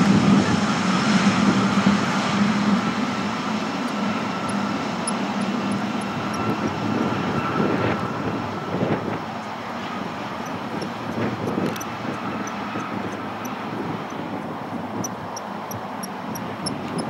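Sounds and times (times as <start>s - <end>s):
jet engines running with whine: 0.0s - 17.0s.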